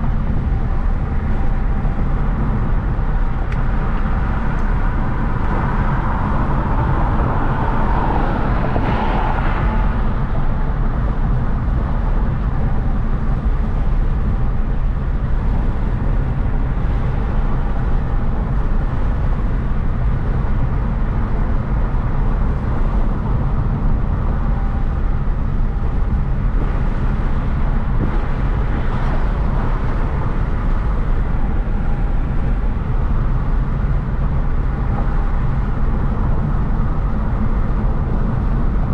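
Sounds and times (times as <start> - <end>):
car engine rumble while driving: 0.0 - 38.9.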